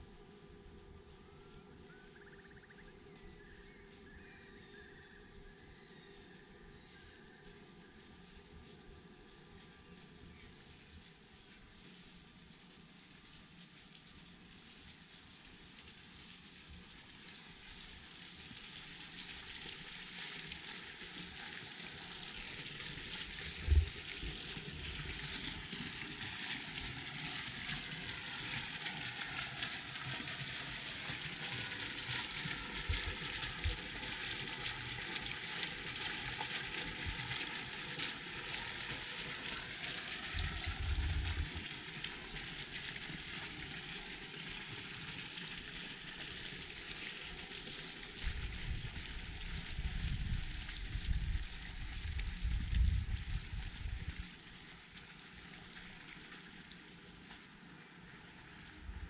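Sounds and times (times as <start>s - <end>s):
fountain water splashing: 9.6s - 59.0s.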